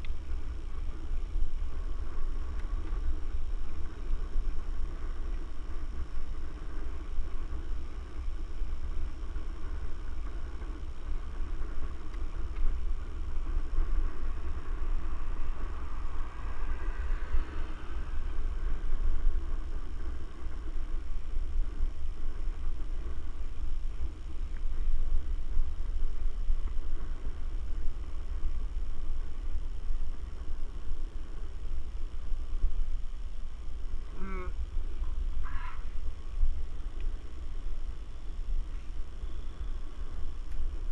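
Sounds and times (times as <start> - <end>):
low rumble of bike ride: 0.0 - 40.9.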